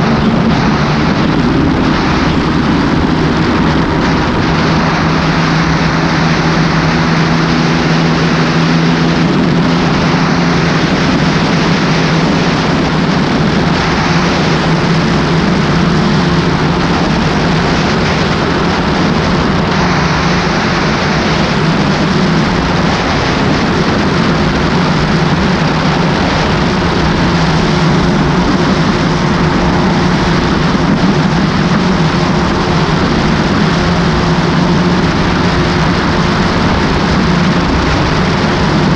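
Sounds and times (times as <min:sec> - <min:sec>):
outboard engine running: 0:00.0 - 0:38.9
rush of wind and water: 0:00.0 - 0:38.9.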